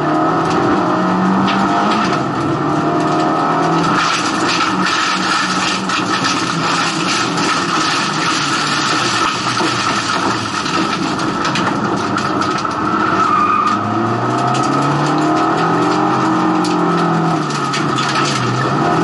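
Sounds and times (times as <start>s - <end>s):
race car engine pulling hard: 0.0s - 19.0s
tyre and road noise: 0.0s - 19.0s.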